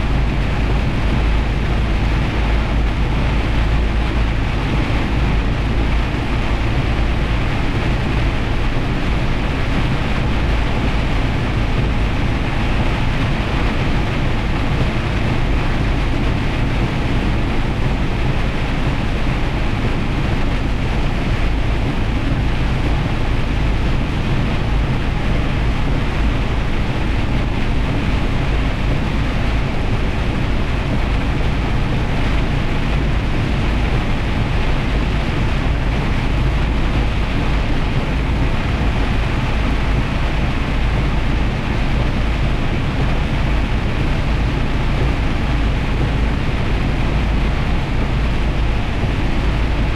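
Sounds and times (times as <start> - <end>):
rain on truck: 0.0 - 49.9
truck engine drone: 0.0 - 49.9.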